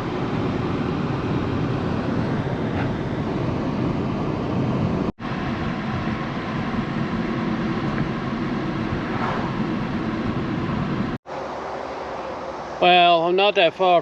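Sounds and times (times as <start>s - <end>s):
road and wind noise in car: 0.0s - 14.0s.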